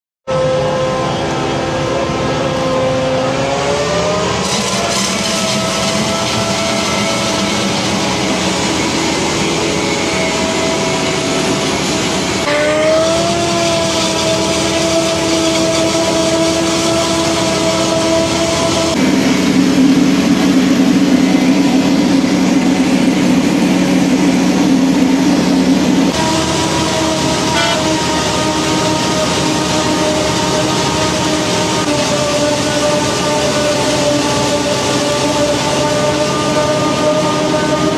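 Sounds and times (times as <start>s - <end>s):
forage harvester drone: 0.3s - 37.9s
machine whine: 0.3s - 37.9s.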